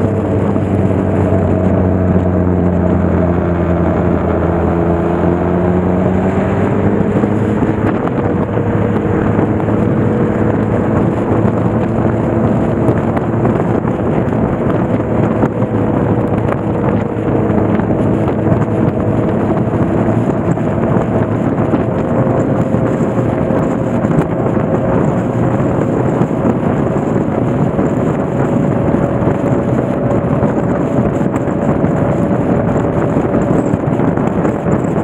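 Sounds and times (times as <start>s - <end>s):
motorcycle engine: 0.0s - 35.0s
wind rushing over microphone: 0.0s - 35.0s.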